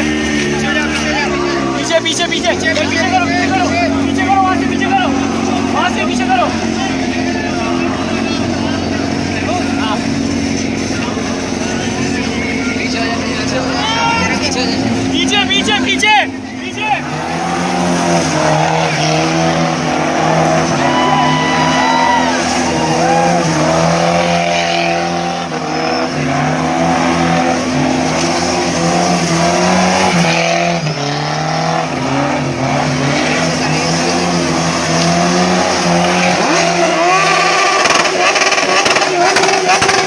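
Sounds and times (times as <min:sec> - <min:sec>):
sports car engine revving: 0:00.0 - 0:40.0.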